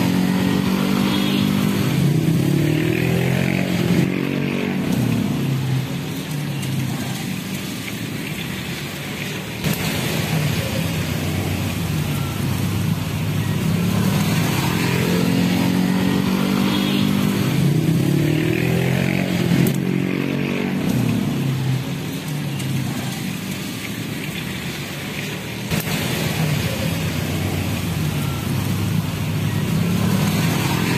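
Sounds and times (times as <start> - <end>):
vehicle engine passing: 0.0 - 7.6, 9.6 - 30.9.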